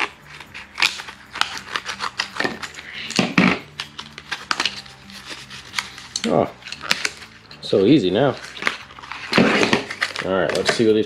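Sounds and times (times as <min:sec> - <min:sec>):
scissors snipping plastic: 0:00.0 - 0:07.4, 0:08.3 - 0:10.9
plastic packaging crackling: 0:00.0 - 0:11.0.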